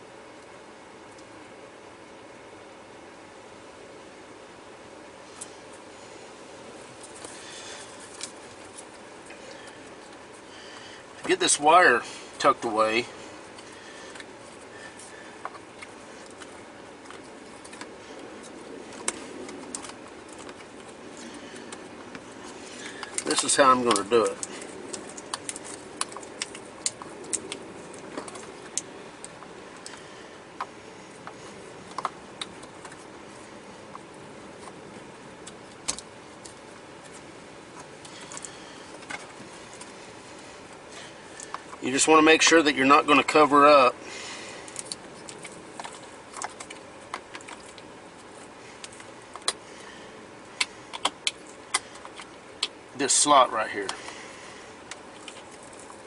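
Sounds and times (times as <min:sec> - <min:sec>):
steady hiss: 0:01.3 - 0:56.0.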